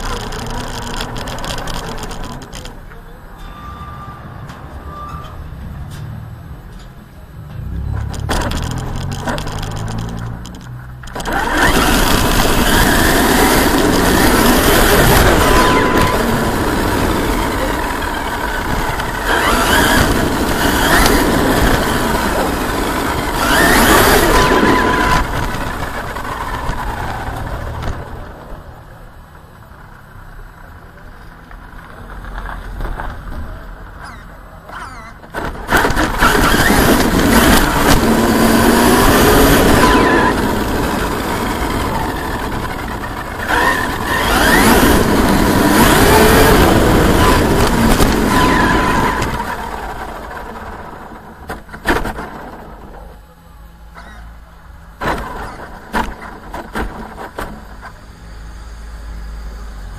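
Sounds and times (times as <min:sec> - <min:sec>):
electric motor and drivetrain whine: 0:00.0 - 0:03.0, 0:04.5 - 0:29.4, 0:31.9 - 0:59.9
tyre and road noise: 0:00.0 - 0:59.9.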